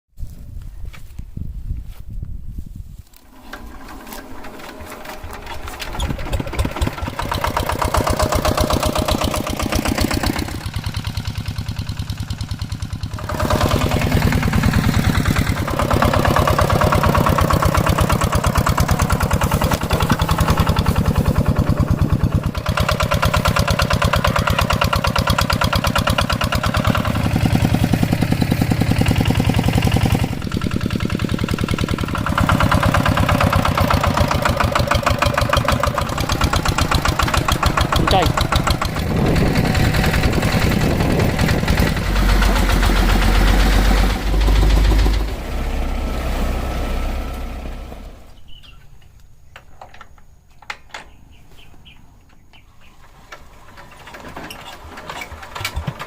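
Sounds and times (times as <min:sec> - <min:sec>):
hand tractor engine running: 0:03.1 - 0:45.6, 0:52.6 - 0:56.0.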